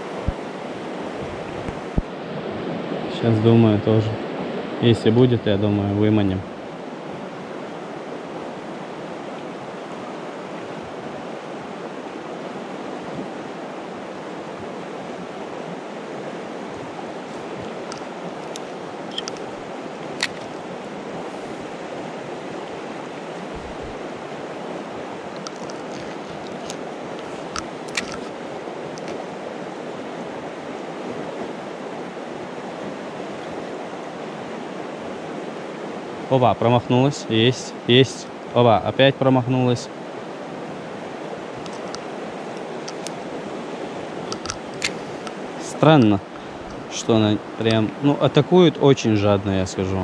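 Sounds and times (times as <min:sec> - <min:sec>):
rushing mountain river: 0:00.0 - 0:50.0.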